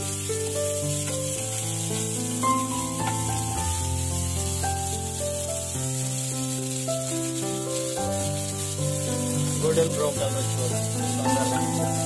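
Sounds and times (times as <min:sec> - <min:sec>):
background music of held notes: 0:00.0 - 0:12.0
onions sizzling in hot oil: 0:00.0 - 0:12.0
spatula stirring in pan: 0:00.0 - 0:12.0.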